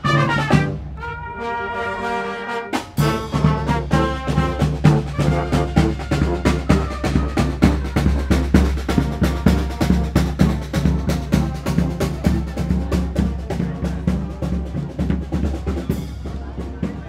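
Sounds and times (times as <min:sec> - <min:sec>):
drums keeping a steady beat: 0:00.0 - 0:17.0
street brass band playing: 0:00.0 - 0:17.0.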